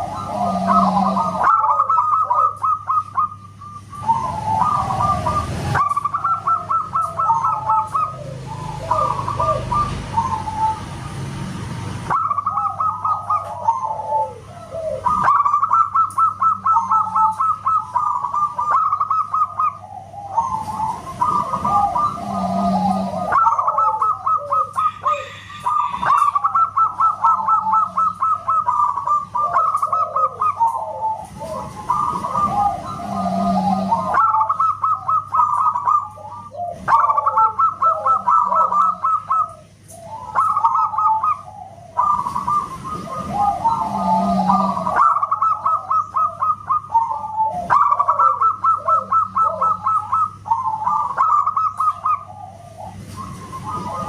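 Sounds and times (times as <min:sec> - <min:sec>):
doves cooing in trilled phrases: 0:00.0 - 0:54.0
low rumbling noise: 0:00.0 - 0:54.0.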